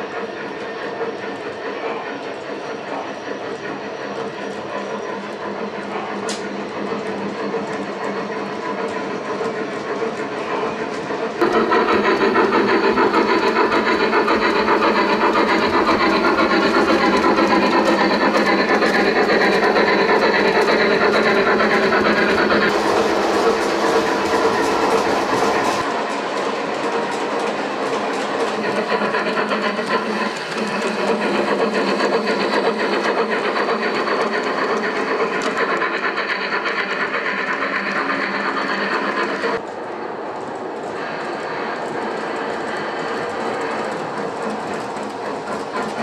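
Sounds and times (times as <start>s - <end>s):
fast clicking over track: 0.0s - 46.0s
model train running on track: 0.0s - 46.0s.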